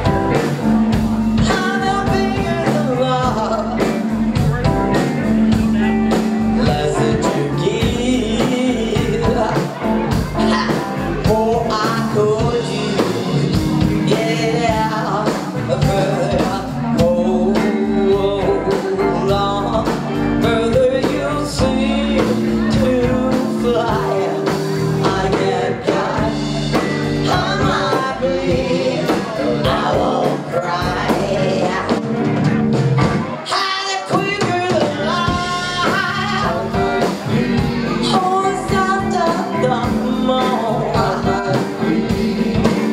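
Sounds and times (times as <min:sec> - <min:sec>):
live rock band playing: 0:00.0 - 0:42.9
woman singing: 0:01.3 - 0:04.2, 0:06.6 - 0:32.1, 0:33.5 - 0:42.9.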